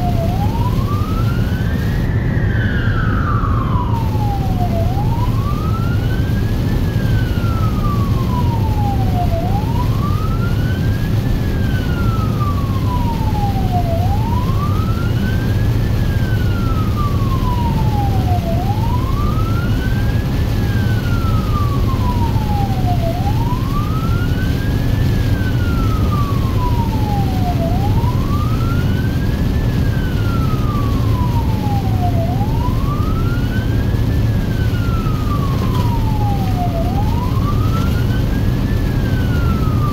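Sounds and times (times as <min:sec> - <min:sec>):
siren wailing: 0:00.0 - 0:39.9
tyres on wet road: 0:03.7 - 0:39.9.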